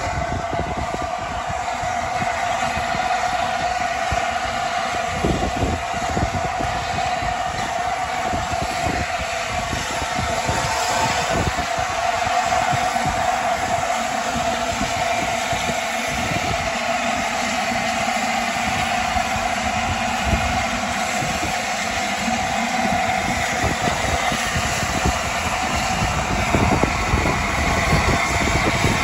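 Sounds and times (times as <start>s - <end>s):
low rumble: 0.0s - 29.0s
mid-pitched hum: 0.0s - 29.0s
steam locomotive hissing: 0.0s - 29.0s.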